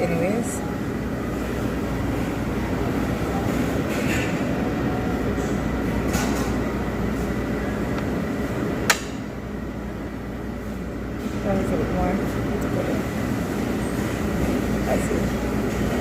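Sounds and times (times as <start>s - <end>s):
restaurant crowd din: 0.0s - 16.0s.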